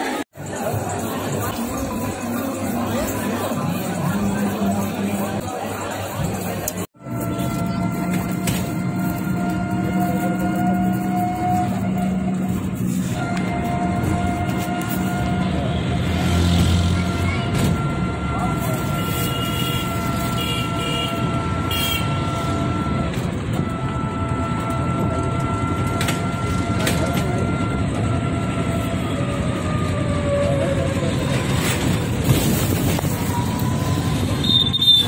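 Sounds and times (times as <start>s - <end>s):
auto-rickshaw engine and road rumble: 0.0s - 35.0s
high engine whine: 0.0s - 35.0s.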